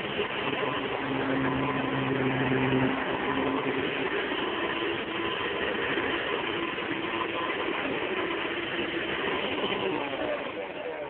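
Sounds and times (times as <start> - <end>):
upright vacuum cleaner running: 0.0 - 11.0.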